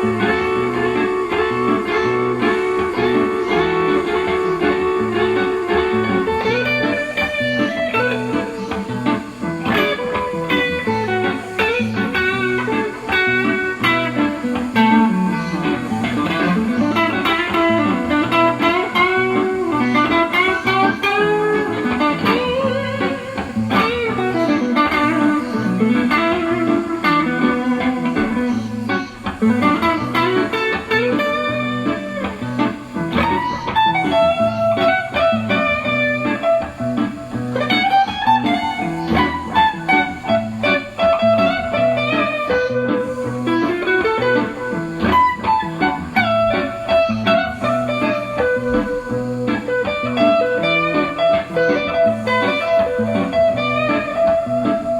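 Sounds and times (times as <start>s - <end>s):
electric guitar bluesy melody: 0.0s - 54.9s.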